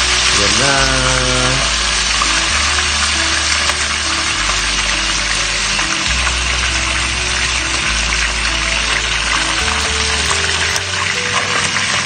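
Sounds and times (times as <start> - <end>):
music with held bass notes: 0.0 - 12.0
oil sizzling: 0.0 - 12.0.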